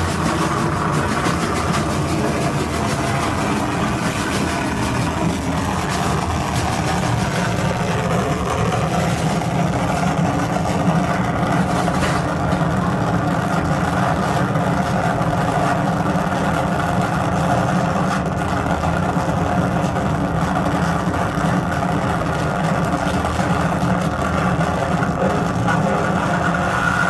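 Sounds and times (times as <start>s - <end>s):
loud electronic noise drone: 0.0s - 27.0s.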